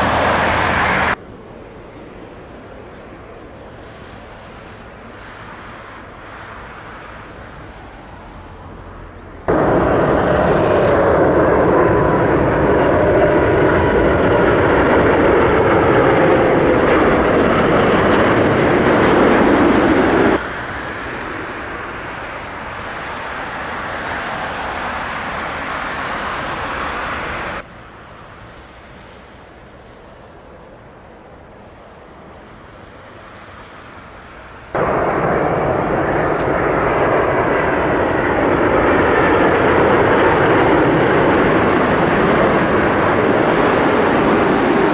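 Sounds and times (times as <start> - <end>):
jet airliner engines rumbling: 0.0 - 44.9.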